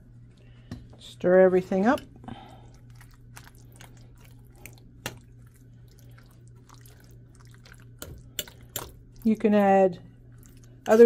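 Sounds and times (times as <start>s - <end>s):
wet squelching of beans: 1.6s - 11.0s.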